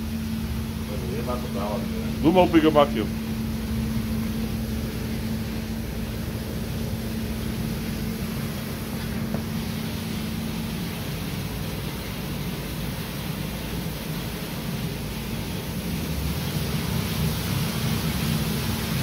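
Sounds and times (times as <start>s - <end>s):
coffee roaster rushing: 0.0s - 19.0s
low hum: 0.0s - 19.0s.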